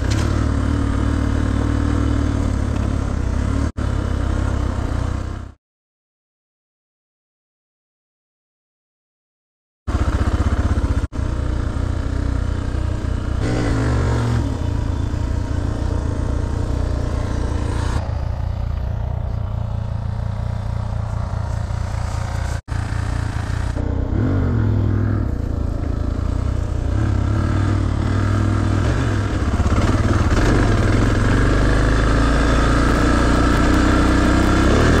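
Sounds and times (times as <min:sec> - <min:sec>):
motorcycle engine running: 0:00.0 - 0:05.6, 0:09.9 - 0:35.0.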